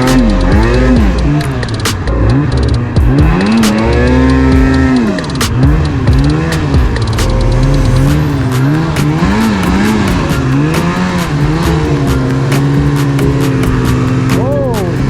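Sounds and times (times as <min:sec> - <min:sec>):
snowmobile engine revving: 0:02.3 - 0:15.0.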